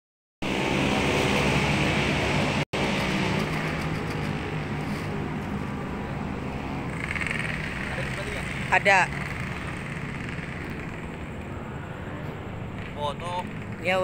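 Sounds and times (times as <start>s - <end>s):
road traffic: 0.4s - 14.0s
vehicle engines running: 0.4s - 14.0s.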